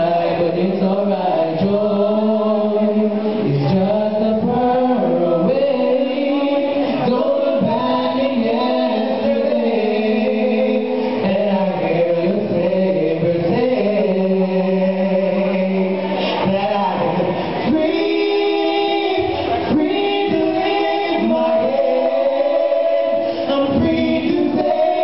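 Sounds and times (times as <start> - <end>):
male duet singing in harmony: 0.0 - 25.0.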